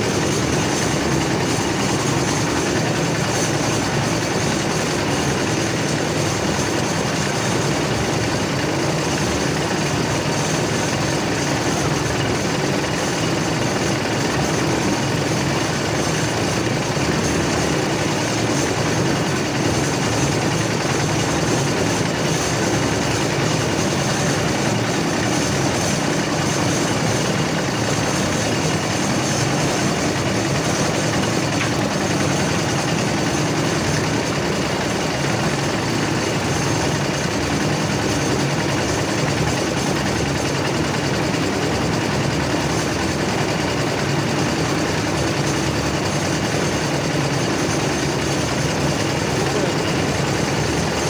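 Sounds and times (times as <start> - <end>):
concrete mixer engine running: 0.0 - 51.0.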